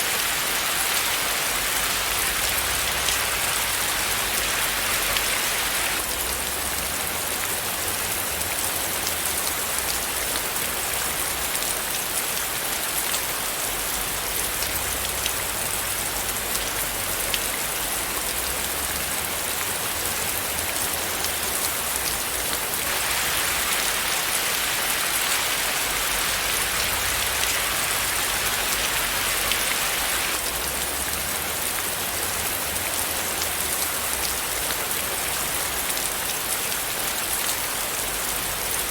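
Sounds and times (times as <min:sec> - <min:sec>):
steady rain hiss: 0:00.0 - 0:38.9
raindrops ticking on a surface: 0:00.2 - 0:38.9.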